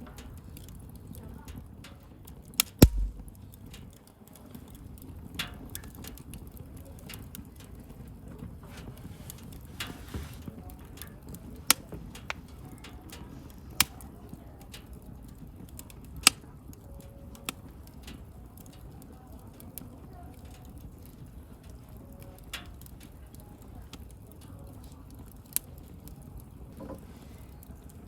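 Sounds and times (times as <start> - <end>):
low noise of burning fire: 0.0 - 28.0
bonfire crackling and popping: 0.3 - 28.0.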